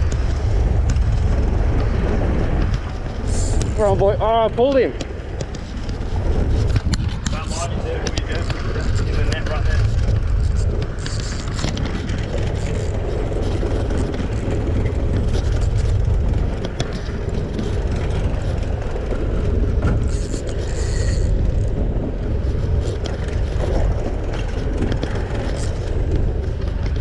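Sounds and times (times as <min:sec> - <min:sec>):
sea around boat hull: 0:00.0 - 0:27.0
wind buffeting microphone: 0:00.0 - 0:27.0
fishing reel casting and winding: 0:02.6 - 0:27.0.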